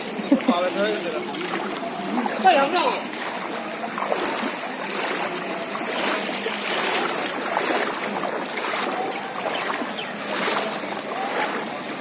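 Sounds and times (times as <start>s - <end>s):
floodwater rushing and sloshing: 0.0s - 12.0s
small water splashes: 0.0s - 12.0s.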